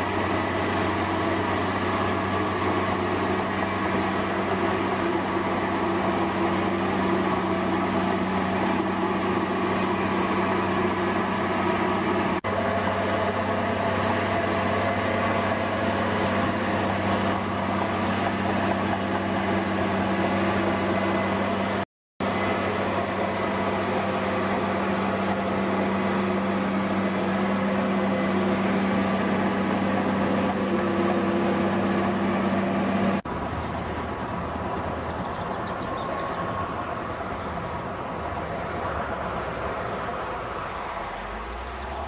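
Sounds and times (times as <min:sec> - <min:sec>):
bulldozer diesel engine droning: 0:00.0 - 0:42.0.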